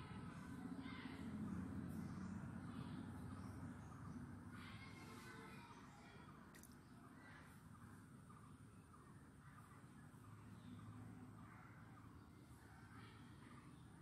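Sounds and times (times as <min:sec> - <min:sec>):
distant bird calls: 0:00.0 - 0:14.0.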